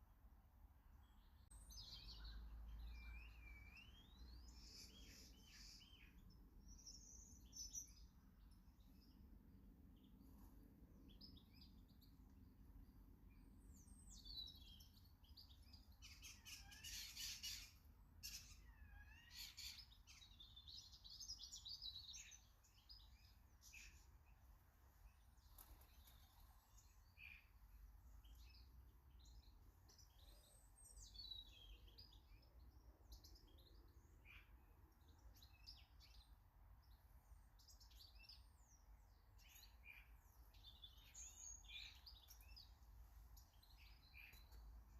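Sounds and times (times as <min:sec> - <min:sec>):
small birds chirping: 0:00.7 - 0:44.9.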